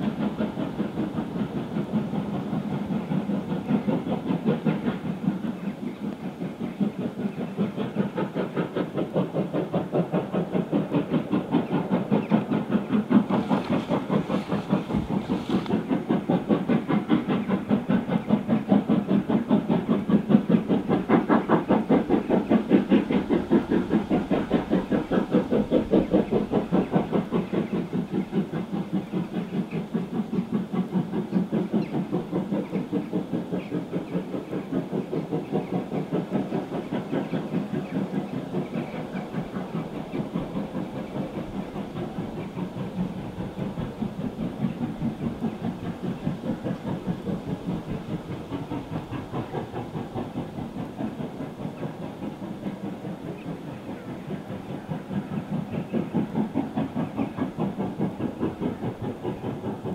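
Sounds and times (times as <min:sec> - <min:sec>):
steam locomotive exhaust beats: 0:00.0 - 0:59.9.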